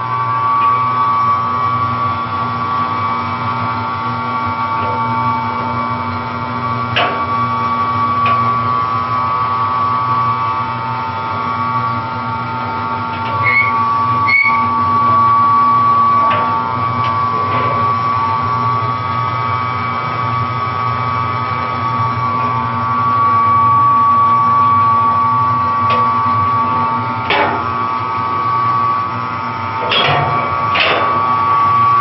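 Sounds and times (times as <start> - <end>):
mortar mixer humming and whining: 0.0 - 32.0.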